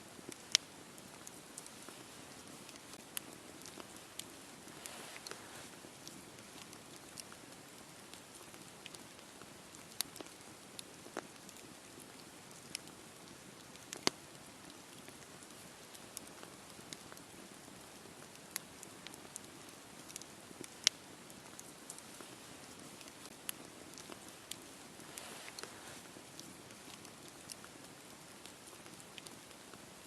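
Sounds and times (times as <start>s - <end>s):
campfire crackles and pops: 0.1s - 30.0s
campfire hissing: 0.2s - 30.0s.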